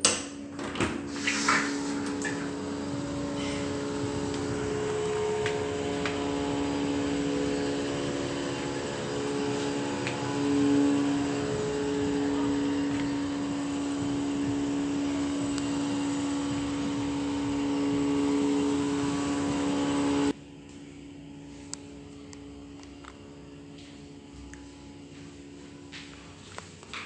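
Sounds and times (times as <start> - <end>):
air conditioner unit humming: 0.0 - 27.0.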